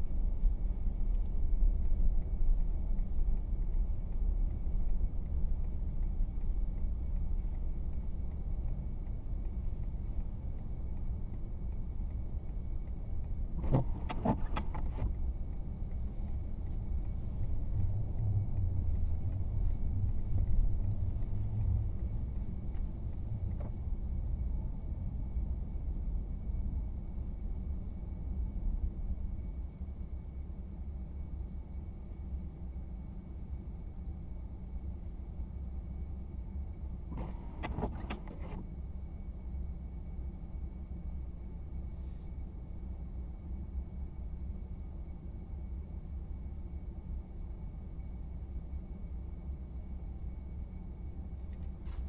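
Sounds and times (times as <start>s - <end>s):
car road and engine rumble: 0.0s - 52.0s.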